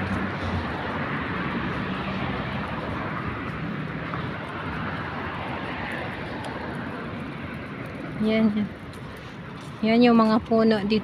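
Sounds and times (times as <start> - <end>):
distant engine roar: 0.0 - 9.6.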